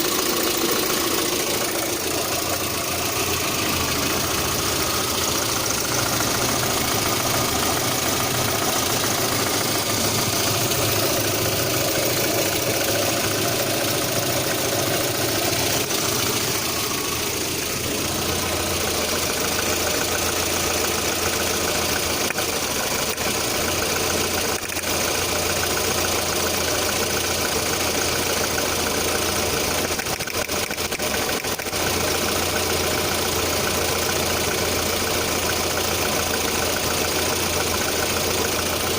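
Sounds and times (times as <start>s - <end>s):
engine idling with knock: 0.0s - 38.9s.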